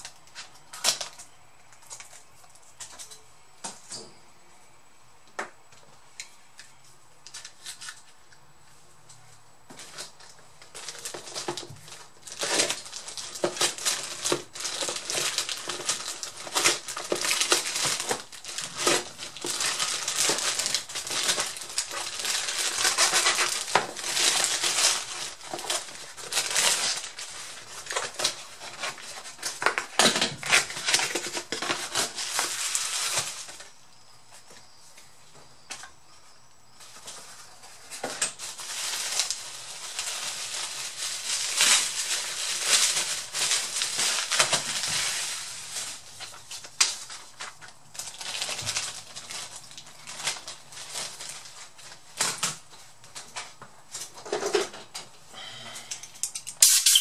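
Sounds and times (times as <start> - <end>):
packaging crinkling and rustling: 0.0 - 3.2, 6.6 - 8.4, 9.7 - 33.8, 36.8 - 55.2.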